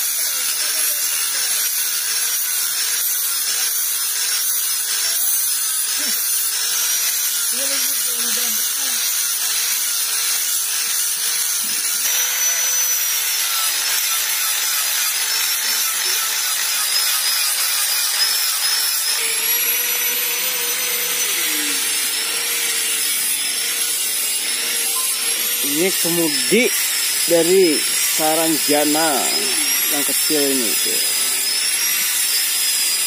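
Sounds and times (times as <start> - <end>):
angle grinder motor whine: 0.0 - 33.0.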